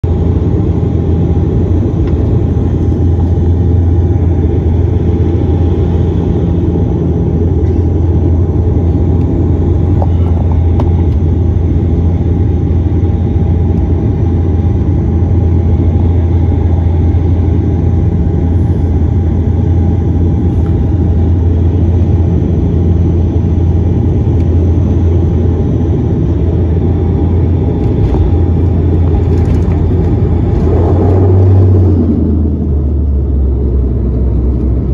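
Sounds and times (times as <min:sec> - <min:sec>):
turboprop engines droning in cabin: 0:00.0 - 0:34.9.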